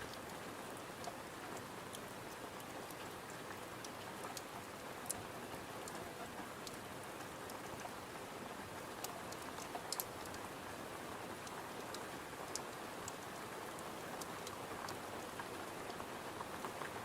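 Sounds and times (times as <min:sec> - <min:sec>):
rain pattering on a window: 0:00.0 - 0:17.0.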